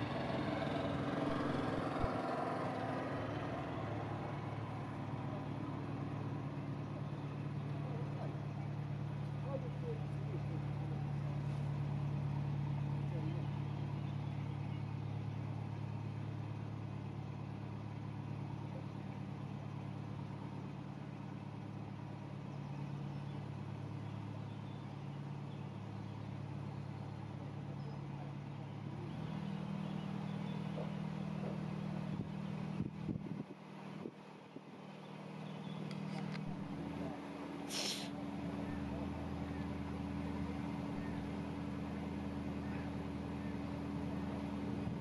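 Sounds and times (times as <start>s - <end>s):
boat diesel engine humming: 0.0s - 45.0s.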